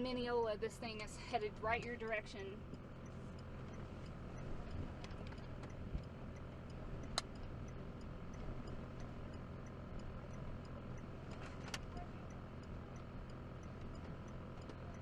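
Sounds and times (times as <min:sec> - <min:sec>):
hazard-light flasher ticking: 0:00.0 - 0:15.0
low rumble inside vehicle: 0:00.0 - 0:15.0.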